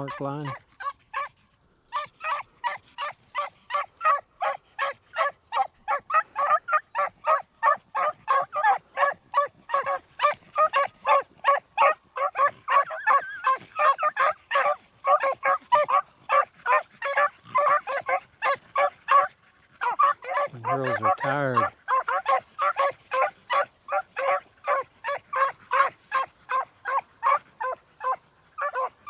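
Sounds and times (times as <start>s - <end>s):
hounds baying: 0.0s - 29.0s.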